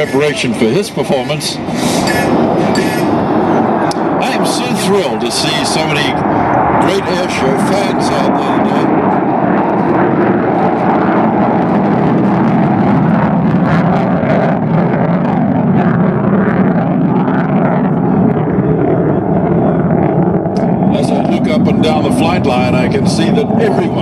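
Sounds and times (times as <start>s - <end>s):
jet engines roaring in afterburner: 0.0s - 24.0s.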